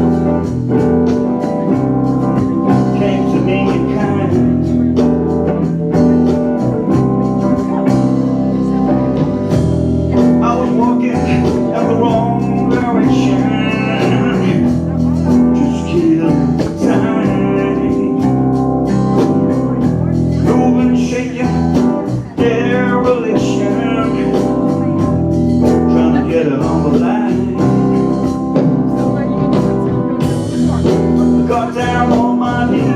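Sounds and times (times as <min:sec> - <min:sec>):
organ chords: 0:00.0 - 0:32.9
person singing: 0:00.0 - 0:32.9.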